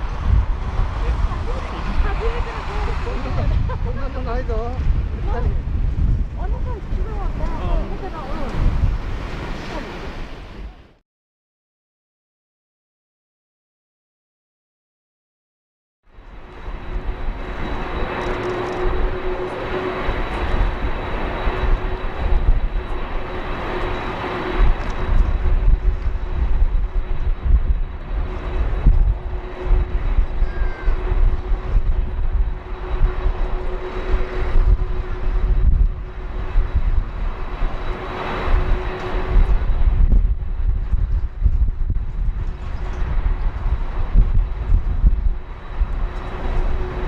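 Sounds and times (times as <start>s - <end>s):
jet engines whining and roaring: 0.0s - 11.0s, 16.1s - 47.0s
wind buffeting microphone: 0.0s - 11.0s, 16.2s - 47.0s.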